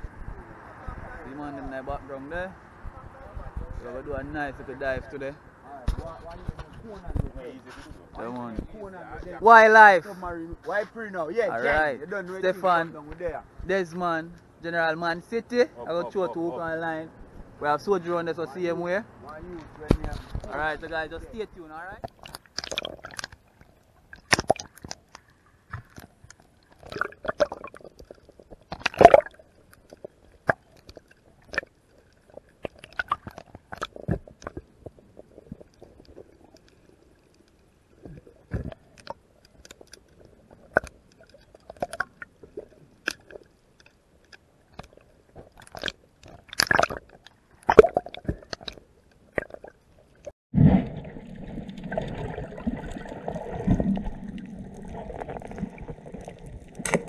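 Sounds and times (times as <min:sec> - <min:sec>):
muffled rush of water: 0:00.0 - 0:12.8, 0:16.0 - 0:57.0.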